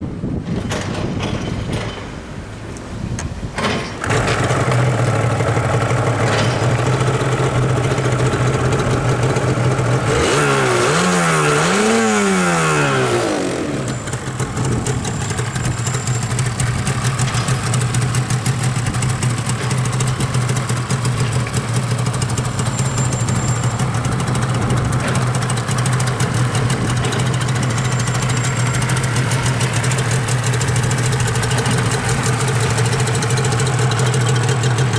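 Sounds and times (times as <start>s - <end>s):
engine throttle blips: 4.0s - 34.9s
two-stroke motorcycle engine idling: 4.0s - 34.9s.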